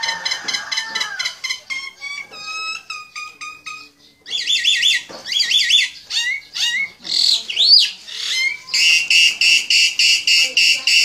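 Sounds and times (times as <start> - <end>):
small bird calling: 0.0 - 11.0.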